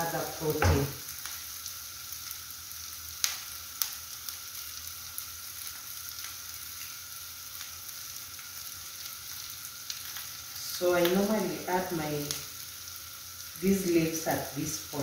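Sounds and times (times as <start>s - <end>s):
onions frying in oil: 0.0s - 15.0s.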